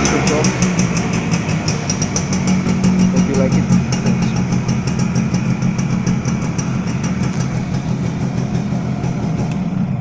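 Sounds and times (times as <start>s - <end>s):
two-stroke engine idling: 0.0s - 10.0s.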